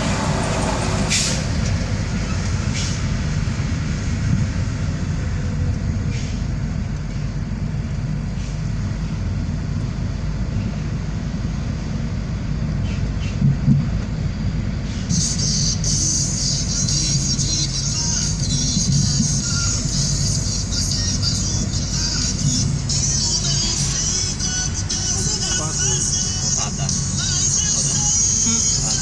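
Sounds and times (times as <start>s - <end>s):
car interior road rumble: 0.0s - 29.0s.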